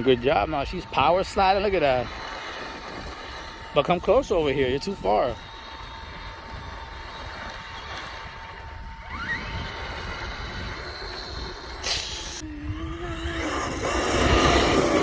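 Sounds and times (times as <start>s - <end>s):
electric toy truck motor whining: 0.0s - 15.0s.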